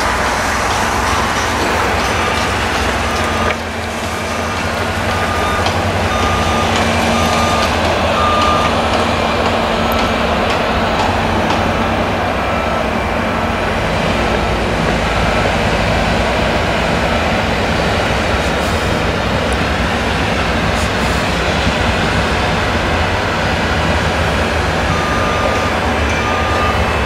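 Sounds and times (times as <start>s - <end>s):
combine harvester engine droning: 0.0s - 27.0s.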